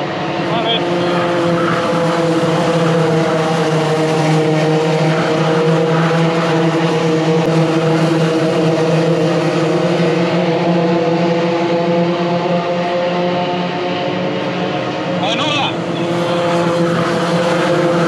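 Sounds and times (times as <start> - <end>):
kart engines droning: 0.0 - 18.0.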